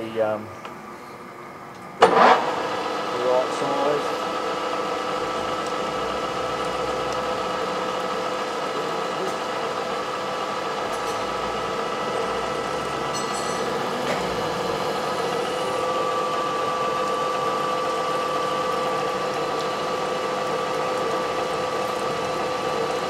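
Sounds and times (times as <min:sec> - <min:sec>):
metal lathe humming and whining: 0:00.9 - 0:23.0.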